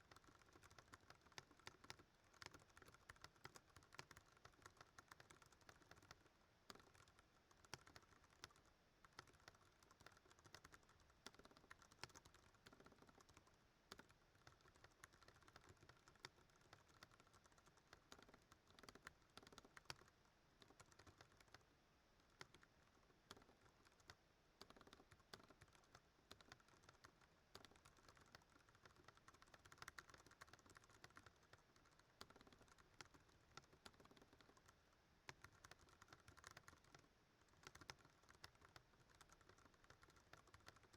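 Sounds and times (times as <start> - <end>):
typing on mechanical keyboard: 0.0 - 21.6, 22.2 - 40.9.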